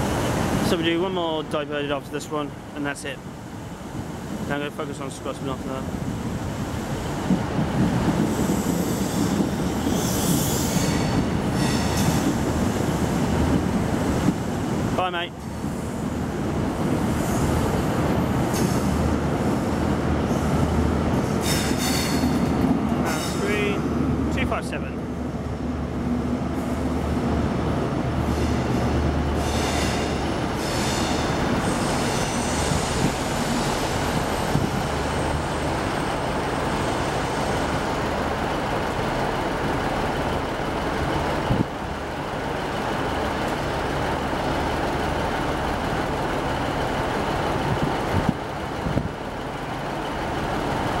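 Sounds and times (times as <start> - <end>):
diesel train engine hum: 0.0 - 51.0.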